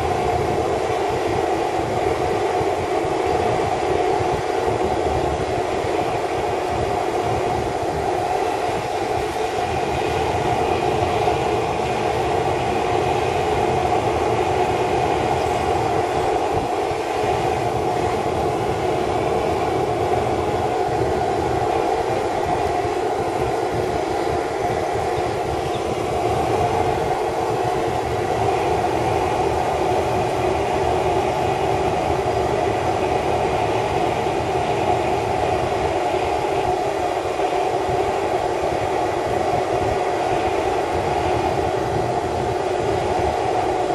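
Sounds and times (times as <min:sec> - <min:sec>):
forge burner flame rushing: 0:00.0 - 0:43.9.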